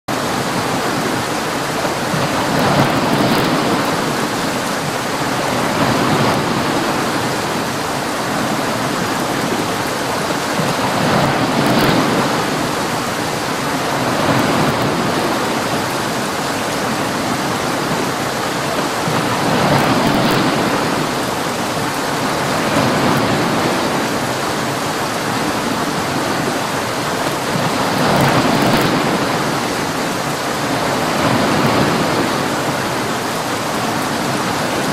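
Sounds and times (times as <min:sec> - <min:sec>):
heavy rain: 0:00.0 - 0:34.9
waves: 0:00.1 - 0:34.9.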